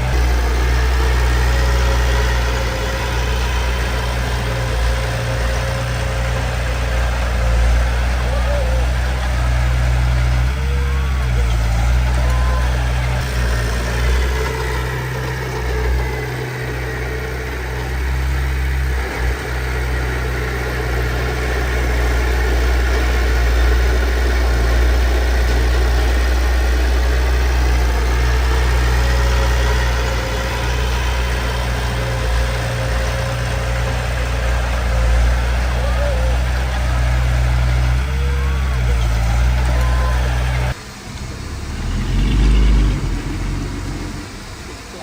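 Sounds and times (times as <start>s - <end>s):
diesel engine low rumble: 0.0s - 45.0s.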